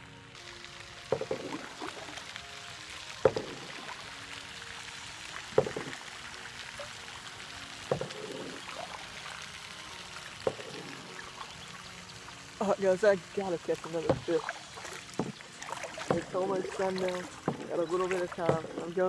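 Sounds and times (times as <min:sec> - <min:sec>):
water trickling: 0:00.3 - 0:19.0
kayak paddle splashing in water: 0:00.4 - 0:19.0.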